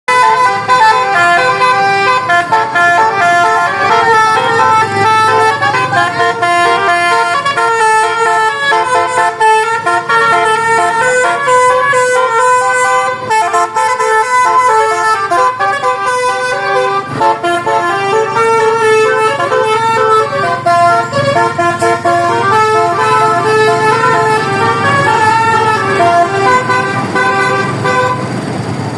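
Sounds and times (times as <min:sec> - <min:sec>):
musical bus horn melody: 0:00.1 - 0:28.5
low engine rumble: 0:00.1 - 0:28.9.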